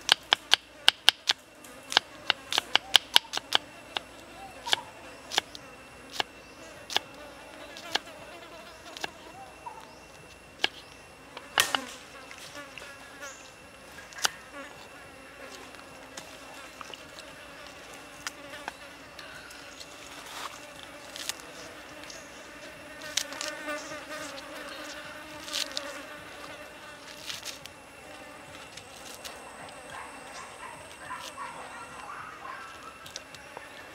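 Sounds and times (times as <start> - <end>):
insects buzzing: 0.0 - 33.9.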